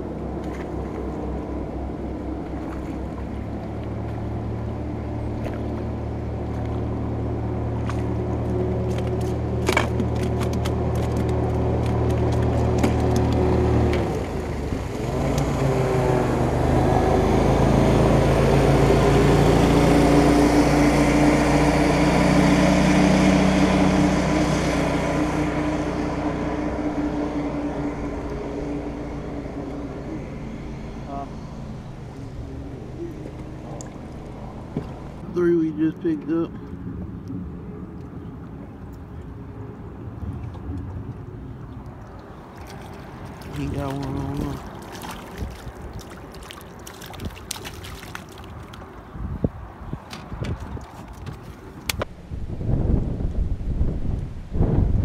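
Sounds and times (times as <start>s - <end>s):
outboard motor passing: 0.0s - 55.0s.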